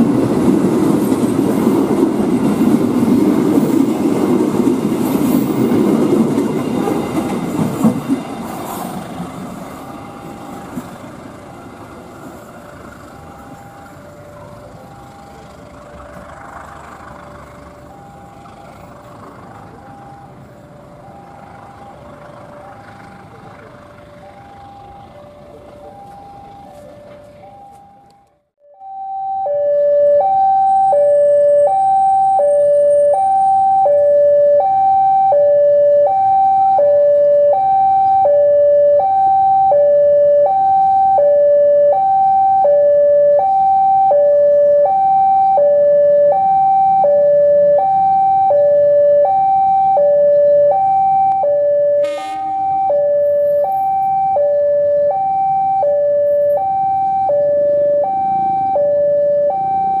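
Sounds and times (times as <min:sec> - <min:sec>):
diesel locomotive rumbling: 0:00.0 - 1:00.0
level crossing two-tone alarm: 0:09.6 - 0:11.7, 0:12.9 - 0:16.3, 0:17.2 - 1:00.0.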